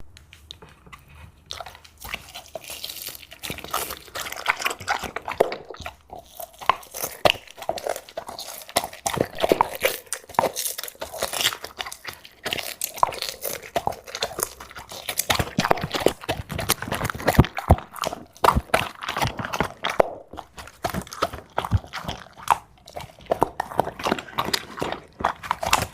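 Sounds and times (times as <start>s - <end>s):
chewing and biting steak: 0.9s - 25.9s
sharp crunches: 1.5s - 25.9s.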